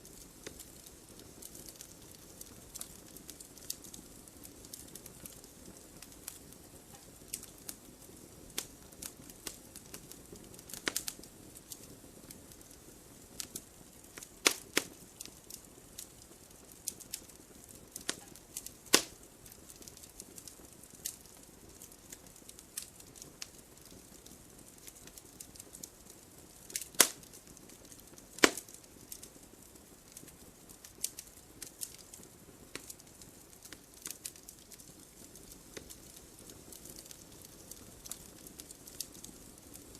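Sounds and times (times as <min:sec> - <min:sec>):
faint low hiss: 0:00.0 - 0:39.9
wood fire crackling and popping: 0:00.0 - 0:39.9.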